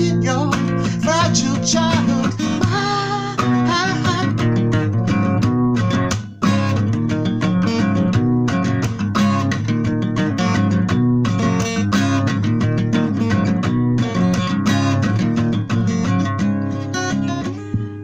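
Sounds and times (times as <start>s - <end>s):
strummed guitar chords: 0.0s - 18.0s.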